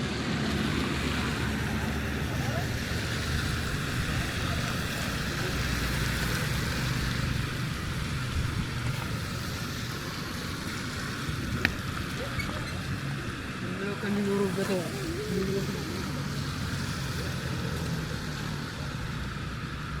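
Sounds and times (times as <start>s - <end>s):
traffic rumble and tyre hiss: 0.0s - 20.0s.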